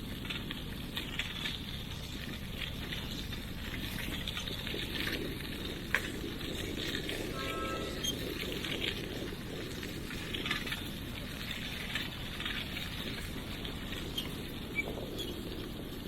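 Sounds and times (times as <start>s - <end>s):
wind and rolling noise: 0.0s - 16.0s.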